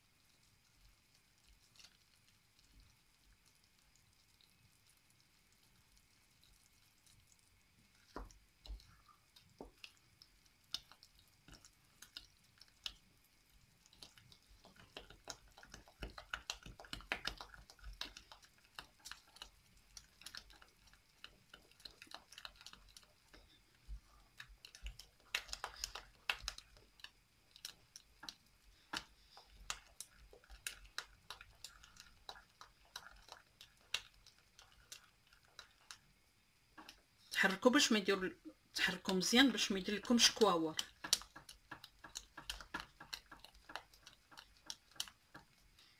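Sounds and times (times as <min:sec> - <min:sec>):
wooden spoon stirring thick dough: 0:00.0 - 0:37.6, 0:38.8 - 0:45.9.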